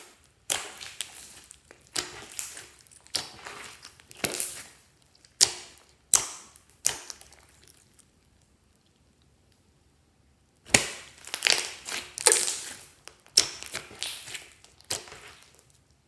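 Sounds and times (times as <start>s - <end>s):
slime squished with crackling pops: 0.0s - 8.5s, 10.6s - 15.8s.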